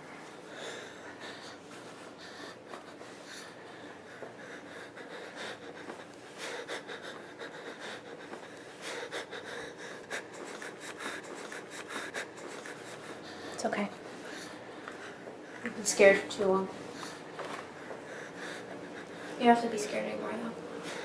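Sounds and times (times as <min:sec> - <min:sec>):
man wheezing breaths: 0:00.0 - 0:15.7, 0:16.9 - 0:19.4, 0:20.8 - 0:21.0.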